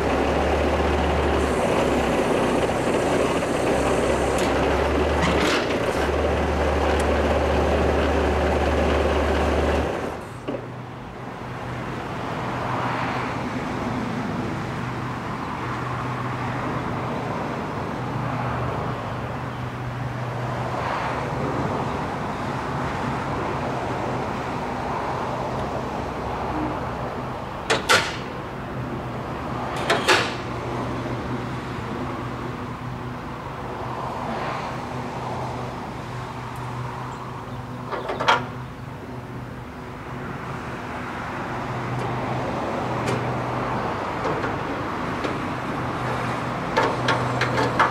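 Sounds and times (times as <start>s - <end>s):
diesel engine running: 0.0s - 12.9s, 21.4s - 47.9s.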